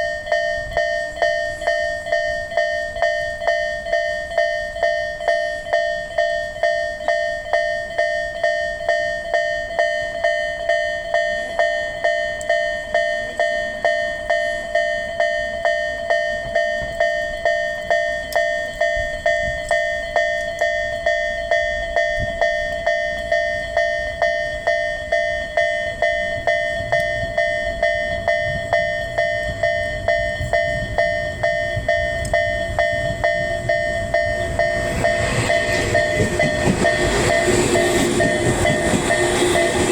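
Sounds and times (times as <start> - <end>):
level crossing electronic bell: 0.0 - 39.9
low train rumble: 0.0 - 39.9.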